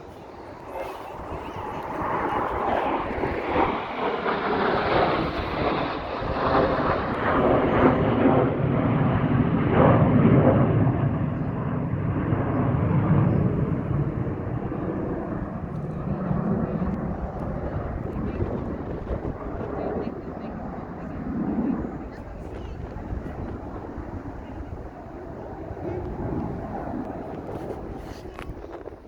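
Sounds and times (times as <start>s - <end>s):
airplane roaring overhead: 0.0s - 29.0s.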